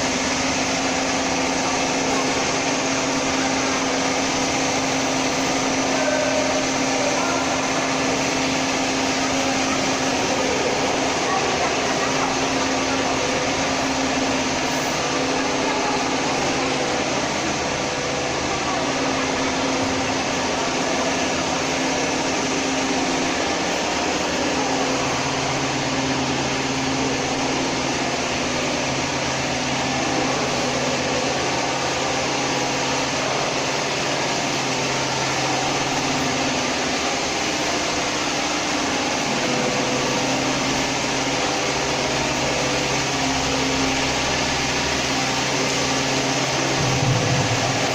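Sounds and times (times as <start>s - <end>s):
machinery humming and whirring: 0.0s - 47.9s.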